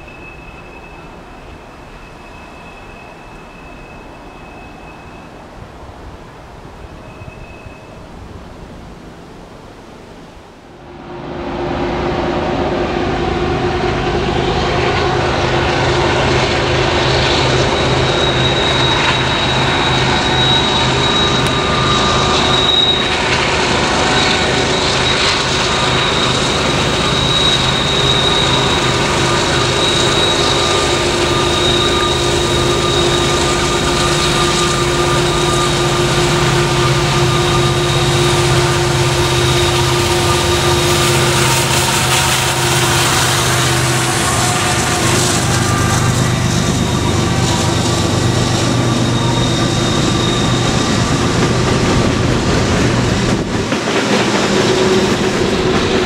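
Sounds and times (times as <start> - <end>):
diesel locomotive engine drone: 0.0 - 56.0
thin high whine: 6.8 - 8.5, 10.4 - 56.0.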